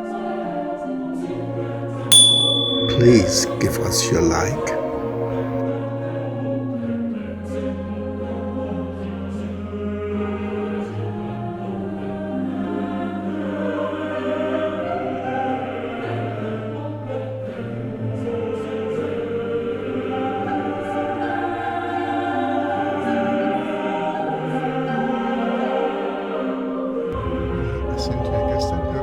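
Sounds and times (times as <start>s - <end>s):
choir singing held chords: 2.1s - 5.6s, 6.3s - 29.0s.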